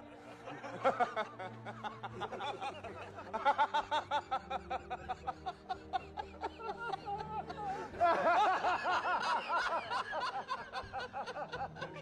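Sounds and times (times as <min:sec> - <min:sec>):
men laughing hard: 0:00.0 - 0:12.0.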